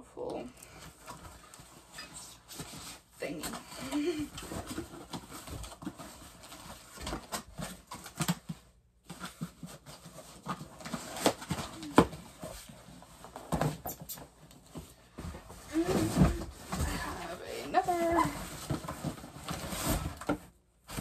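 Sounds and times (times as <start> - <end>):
household items being handled: 0.1 - 21.0.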